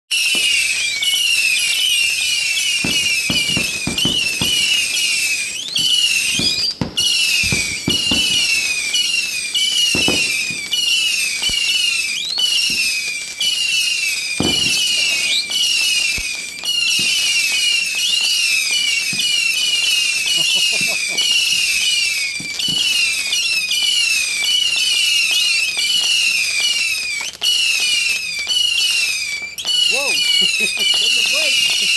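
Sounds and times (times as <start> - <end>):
fireworks launch pops and thumps: 0.1 - 31.9
rising whistle: 0.1 - 31.9.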